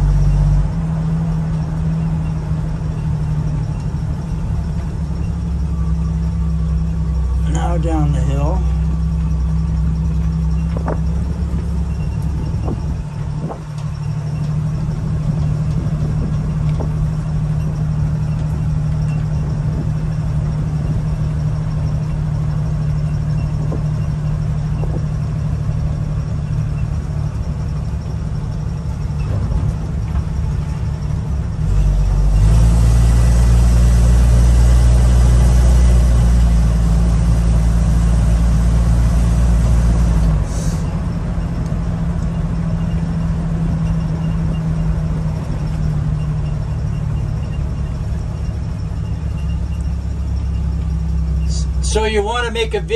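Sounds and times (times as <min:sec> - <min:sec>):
car engine running: 0:00.0 - 0:52.9
low rumble and rush: 0:00.0 - 0:52.9.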